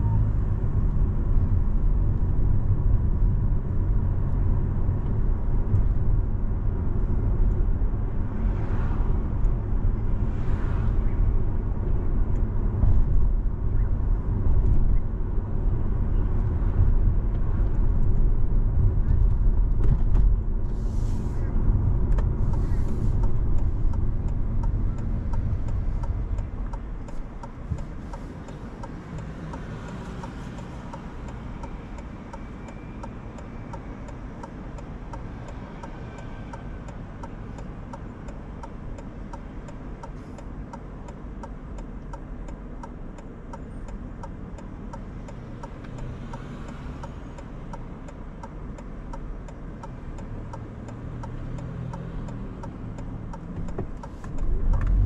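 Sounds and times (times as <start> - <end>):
turn signal ticking: 0.0 - 20.7, 21.5 - 55.0
car engine and road rumble: 0.0 - 55.0.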